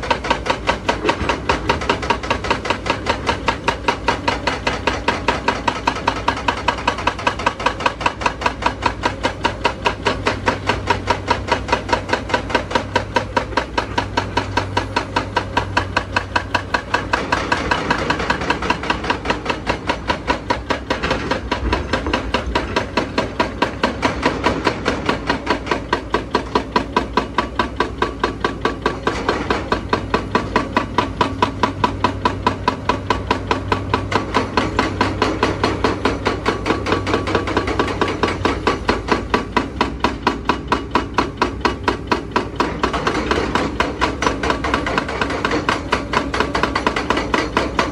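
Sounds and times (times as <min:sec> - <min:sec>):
diesel engine running: 0:00.0 - 0:47.9
hydraulic breaker hammering rock: 0:00.0 - 0:47.9.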